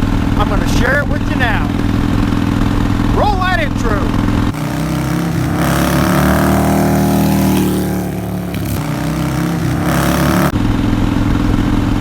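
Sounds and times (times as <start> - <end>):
motorcycle engine revving: 0.0 - 11.0
steady engine drone: 0.0 - 12.0.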